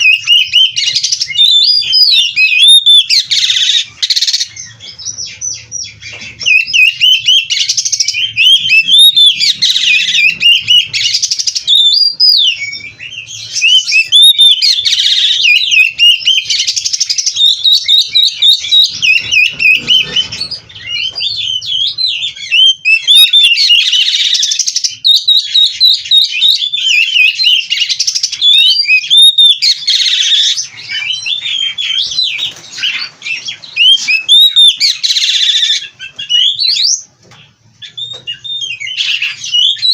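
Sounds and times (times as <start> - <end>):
bird singing whistled notes: 0.0 - 37.1, 37.8 - 39.9.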